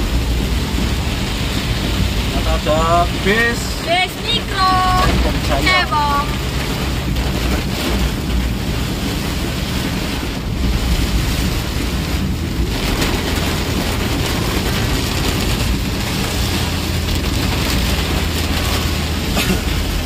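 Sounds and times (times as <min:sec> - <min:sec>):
heavy rain on vehicle: 0:00.0 - 0:20.0
vehicle rumble on wet road: 0:00.0 - 0:20.0.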